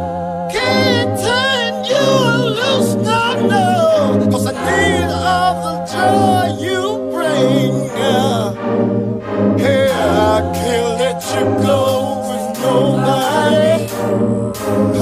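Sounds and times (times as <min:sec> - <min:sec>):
song with sung melody: 0:00.0 - 0:15.0.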